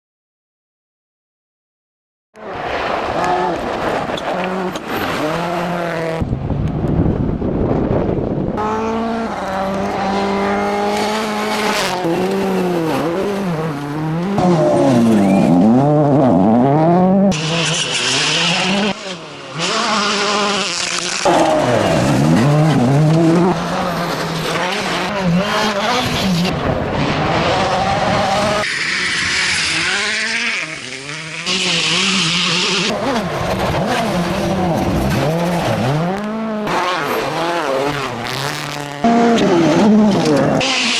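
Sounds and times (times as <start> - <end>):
rally car engines revving: 2.4 - 40.9.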